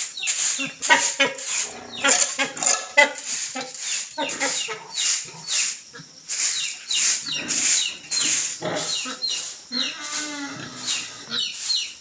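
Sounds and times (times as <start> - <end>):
farm animals calling: 0.0 - 12.0.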